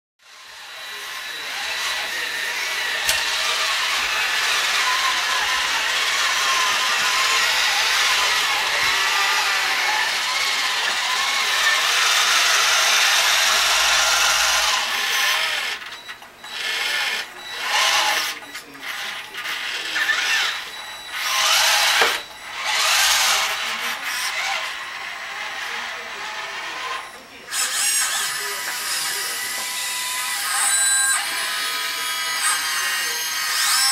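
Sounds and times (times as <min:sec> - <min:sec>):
small electric motors whining: 0:00.2 - 0:33.9.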